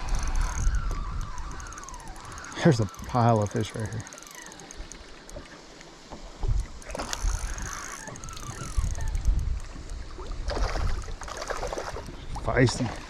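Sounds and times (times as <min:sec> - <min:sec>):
wind rumbling on microphone: 0:00.0 - 0:04.1, 0:06.2 - 0:13.0
boat noise: 0:00.0 - 0:13.0
faint water: 0:00.0 - 0:13.0.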